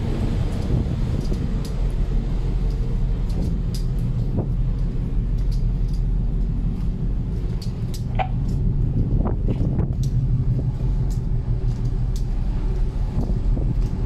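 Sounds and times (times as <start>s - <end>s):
ship engine rumble at sea: 0.0s - 14.0s.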